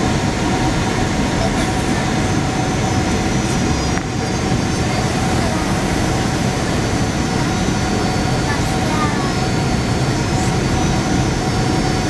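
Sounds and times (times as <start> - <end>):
jet engine running: 0.0 - 12.0.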